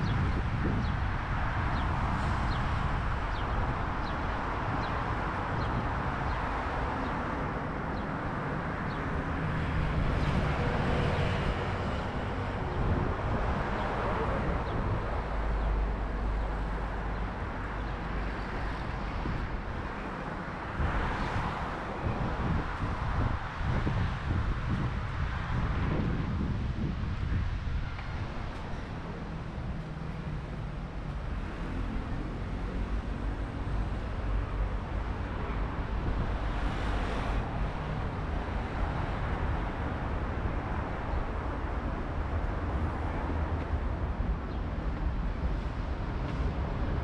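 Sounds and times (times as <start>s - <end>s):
road traffic: 0.0s - 47.0s.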